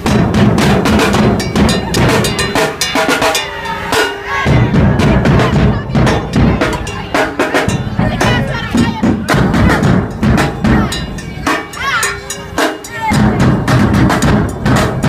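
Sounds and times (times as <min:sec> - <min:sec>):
drum-heavy music: 0:00.0 - 0:15.0.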